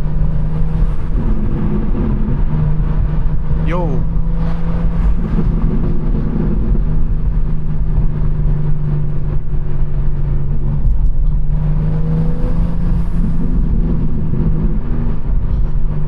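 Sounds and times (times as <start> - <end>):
car engine cruising drone: 0.0 - 16.0.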